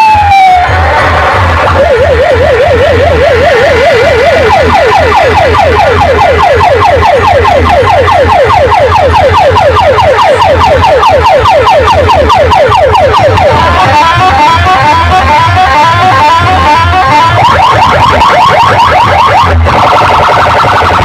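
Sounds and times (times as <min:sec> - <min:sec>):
electronic siren effect: 0:00.0 - 0:21.0.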